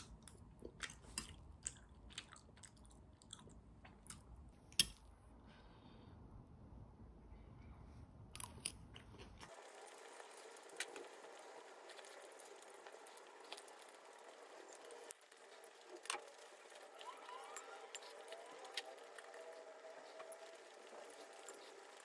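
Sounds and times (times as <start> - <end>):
faint chewing and crunching: 0.0 - 5.1, 8.4 - 22.0.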